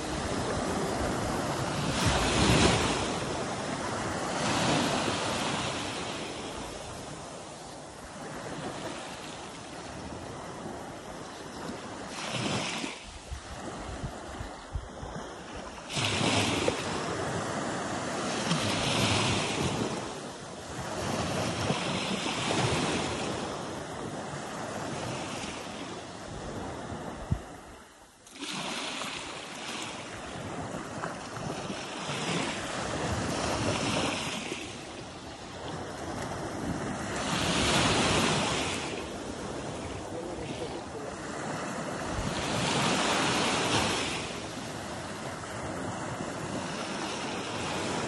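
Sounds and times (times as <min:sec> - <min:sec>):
small waves lapping on sand: 0:00.0 - 0:48.0.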